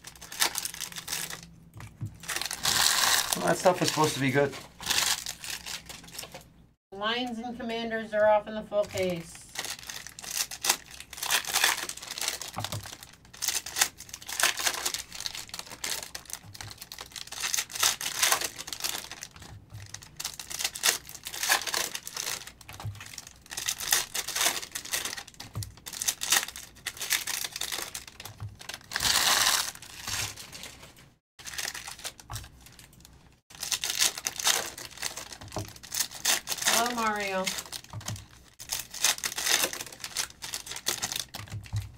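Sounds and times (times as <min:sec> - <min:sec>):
foil wrappers crinkling and tearing: 0:00.0 - 0:06.5, 0:09.0 - 0:41.9.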